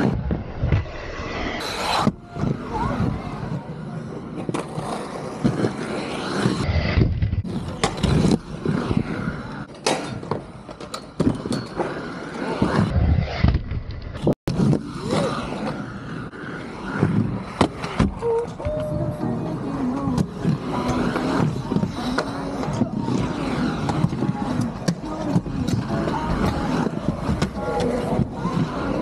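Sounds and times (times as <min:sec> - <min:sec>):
skateboard wheels rumbling: 0:00.0 - 0:29.0.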